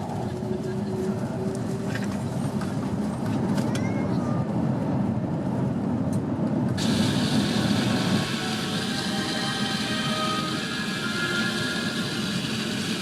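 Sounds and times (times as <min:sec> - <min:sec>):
airliner rumble: 0:00.0 - 0:13.0.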